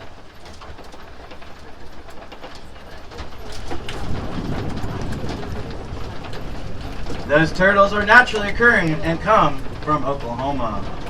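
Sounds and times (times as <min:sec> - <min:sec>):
rattles and clicks: 0:00.0 - 0:11.0
tram motor and tyres rumbling: 0:00.0 - 0:11.0.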